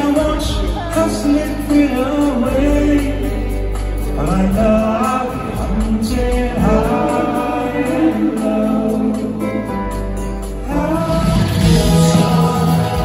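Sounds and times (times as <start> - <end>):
acoustic guitar: 0.0 - 13.0
keyboard: 0.0 - 13.0
man singing: 0.0 - 13.0.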